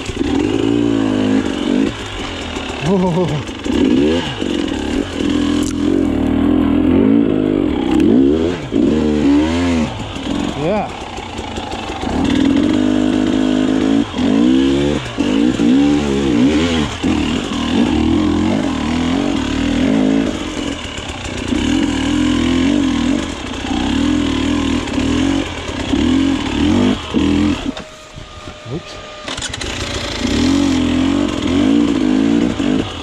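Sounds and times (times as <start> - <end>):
two-stroke engine revving hard: 0.0 - 33.0.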